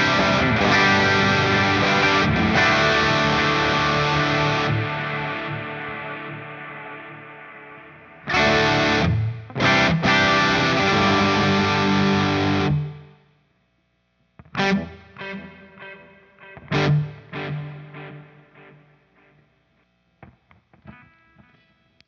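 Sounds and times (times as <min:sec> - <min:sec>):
picked guitar notes with delay: 0:00.0 - 0:13.0, 0:14.4 - 0:19.4
distorted electric guitar chords: 0:00.0 - 0:13.2, 0:14.4 - 0:22.0.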